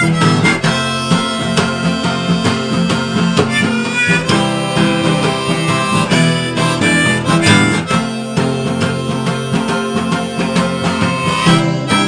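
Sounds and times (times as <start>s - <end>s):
instrumental song with steady beat: 0.0s - 12.0s.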